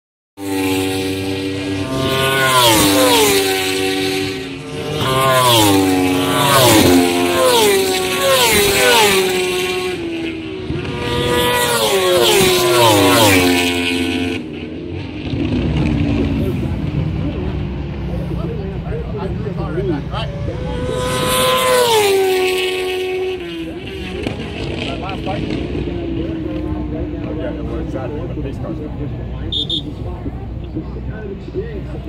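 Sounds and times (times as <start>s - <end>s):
racing motorcycles passing by: 0.4s - 32.0s.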